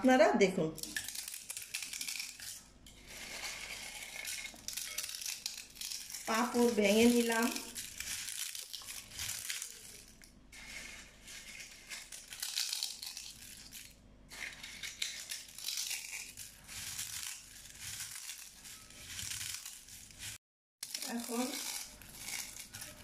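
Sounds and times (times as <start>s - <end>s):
papad crackling and crunching: 0.8s - 23.0s.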